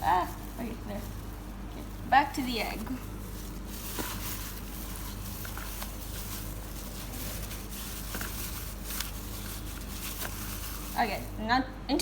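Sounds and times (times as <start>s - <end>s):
food handling taps and squishes: 0.0s - 11.4s
steady low hum: 0.0s - 12.0s.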